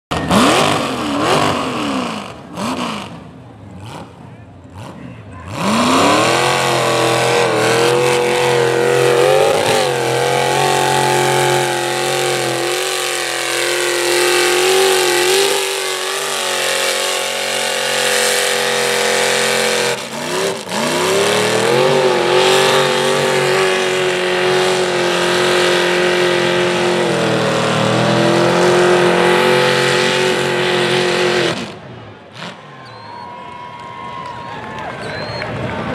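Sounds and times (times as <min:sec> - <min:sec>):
truck engine revving hard: 0:00.1 - 0:33.1.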